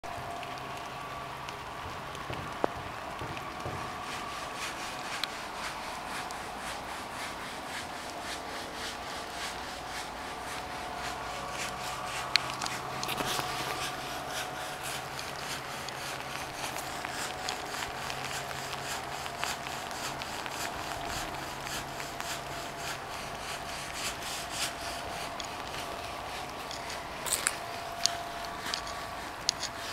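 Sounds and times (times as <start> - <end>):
faint drawn-out tones: 0.1 - 29.9
hiss and rustle: 0.1 - 29.9.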